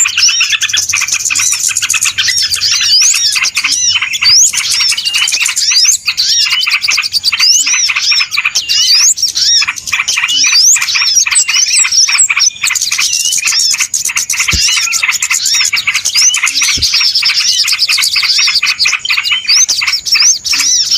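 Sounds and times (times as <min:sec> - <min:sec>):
many small birds chirping: 0:00.0 - 0:20.9.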